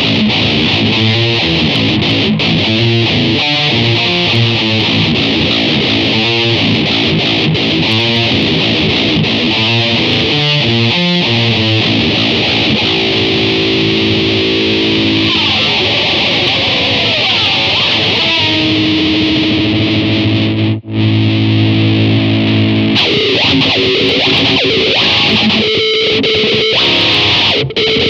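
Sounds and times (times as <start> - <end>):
distorted electric guitar: 0.0 - 28.0.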